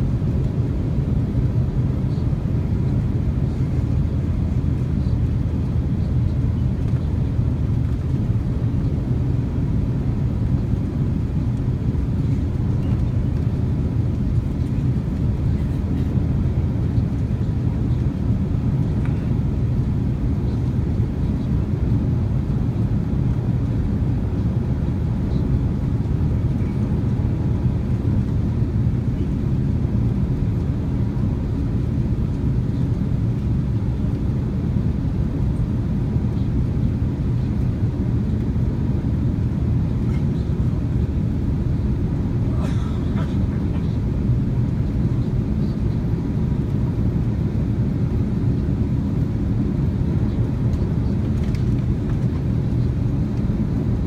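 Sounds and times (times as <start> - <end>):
airliner cabin rumble in flight: 0.0 - 54.0.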